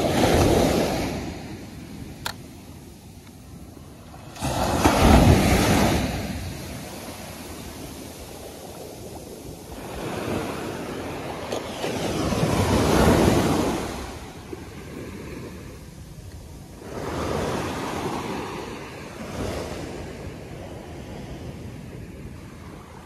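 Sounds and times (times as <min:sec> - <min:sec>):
ocean waves washing up beach: 0:00.0 - 0:23.0.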